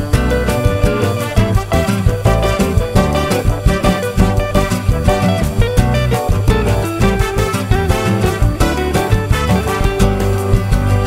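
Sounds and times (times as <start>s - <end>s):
upbeat salsa-like music: 0.0s - 11.0s.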